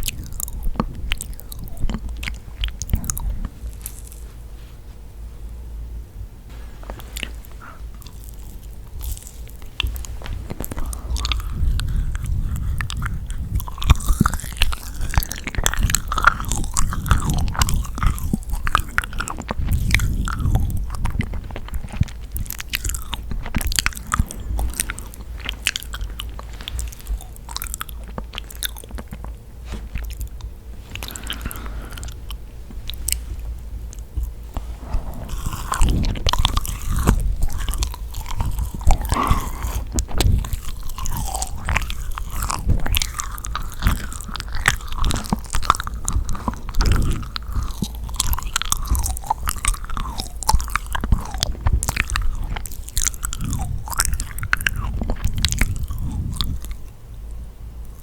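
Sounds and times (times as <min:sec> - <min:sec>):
chewing sticky cookie: 0:00.0 - 0:04.4, 0:06.5 - 0:58.0
small sticky clicks and crackles: 0:06.9 - 0:34.6, 0:35.7 - 0:56.9.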